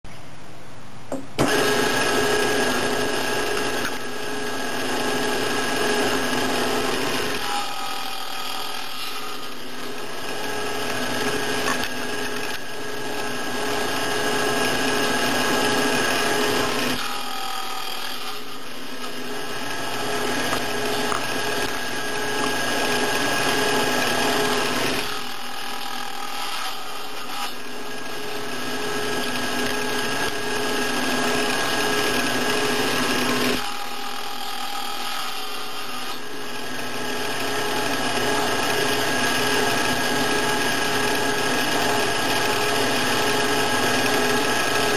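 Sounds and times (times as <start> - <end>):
table saw cutting wood: 1.4 - 44.9.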